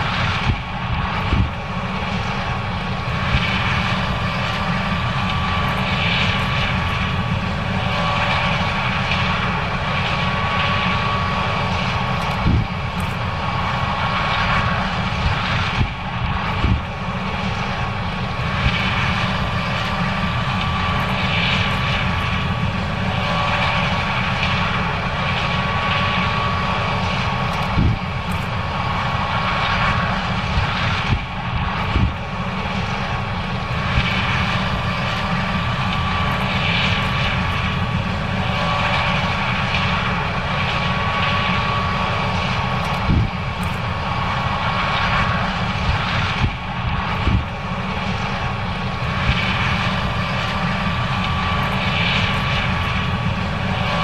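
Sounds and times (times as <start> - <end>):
combine harvester engine drone: 0.0 - 54.0
thin steady whine: 0.0 - 54.0.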